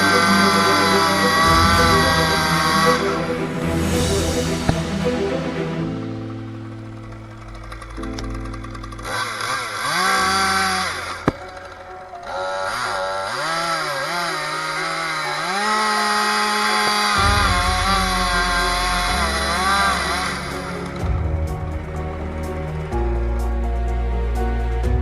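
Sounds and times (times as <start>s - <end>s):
background music: 0.0s - 25.0s
chainsaw cutting wood: 0.2s - 23.8s.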